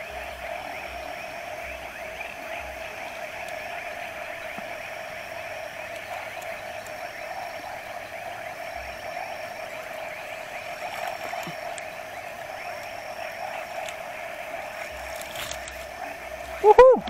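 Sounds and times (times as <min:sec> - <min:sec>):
frogs trilling: 0:00.0 - 0:17.0.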